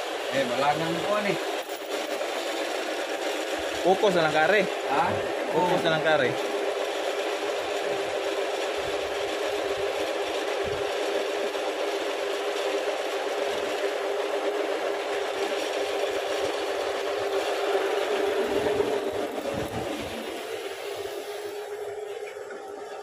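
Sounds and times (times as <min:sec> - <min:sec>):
metal lathe humming: 0:00.0 - 0:23.0.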